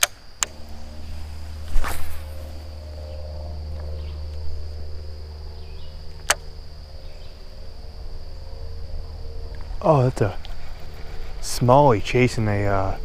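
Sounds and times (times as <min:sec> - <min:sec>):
insects droning: 0:00.0 - 0:13.0
low steady rumble: 0:00.3 - 0:13.0.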